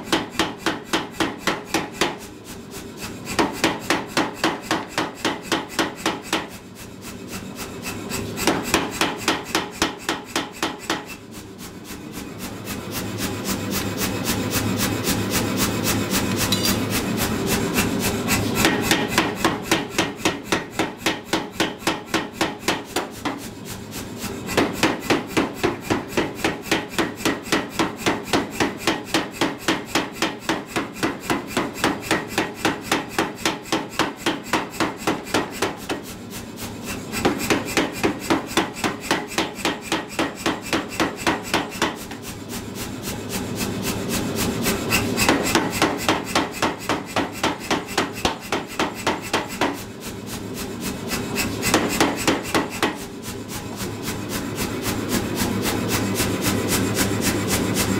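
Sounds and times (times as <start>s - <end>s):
power hammer pounding steel bar: 0.0s - 57.9s.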